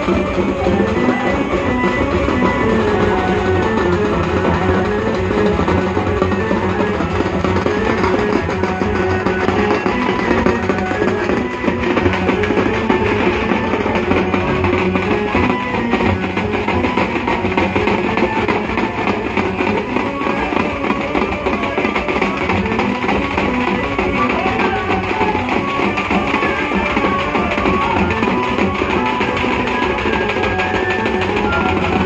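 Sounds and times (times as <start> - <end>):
drums playing fast rhythm: 0.0 - 32.0
sustained melody line: 0.0 - 32.0.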